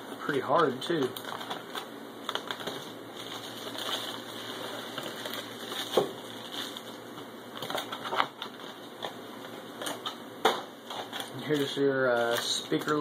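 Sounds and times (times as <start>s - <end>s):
plastic packaging crinkling: 0.2s - 9.2s, 10.8s - 13.0s.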